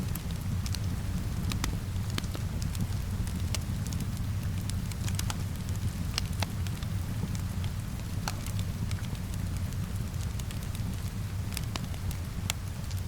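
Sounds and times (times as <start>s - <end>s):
rain rumble and hiss: 0.0s - 13.0s
wood fire crackling and popping: 0.0s - 13.0s.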